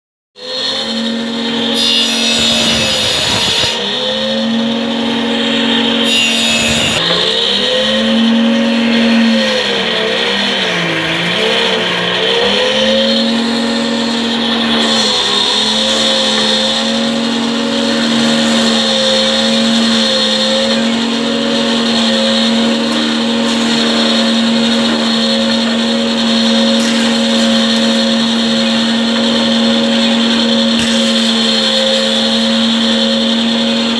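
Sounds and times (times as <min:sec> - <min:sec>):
jointer motor humming: 0:00.4 - 0:33.9
plank cutting rush: 0:00.4 - 0:33.9.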